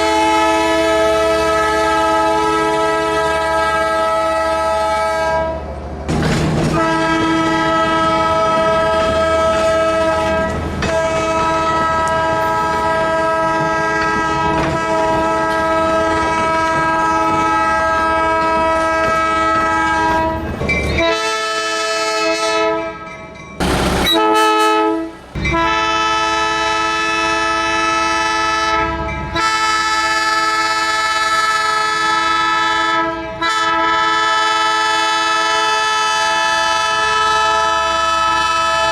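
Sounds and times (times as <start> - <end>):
locomotive air horn chord: 0.0 - 5.7, 6.6 - 23.0, 23.7 - 38.9
low rumble of passing train: 0.0 - 38.9.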